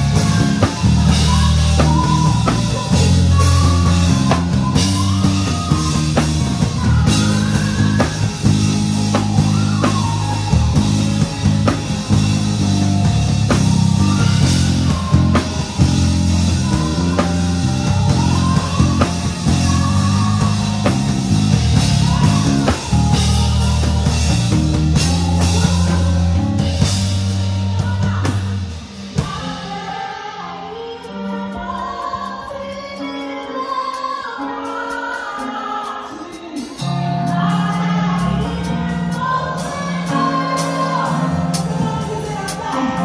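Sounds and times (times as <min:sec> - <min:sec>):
person singing: 0:00.0 - 0:12.9, 0:13.5 - 0:43.0
bass: 0:00.0 - 0:33.8, 0:35.8 - 0:43.0
drum kit: 0:00.0 - 0:43.0
guitar: 0:00.0 - 0:43.0.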